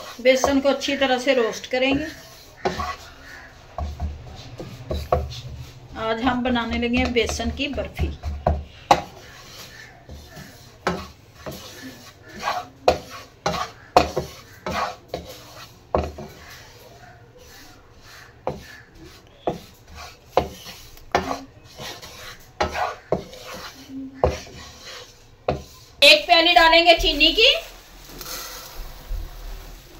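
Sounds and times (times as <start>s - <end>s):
wooden spatula scraping a pan: 0.0s - 29.9s.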